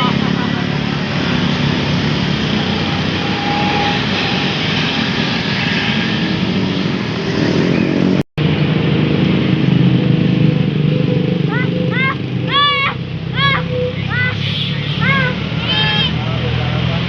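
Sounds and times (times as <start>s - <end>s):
bus engine running: 0.0s - 17.0s
road traffic noise: 0.0s - 17.0s.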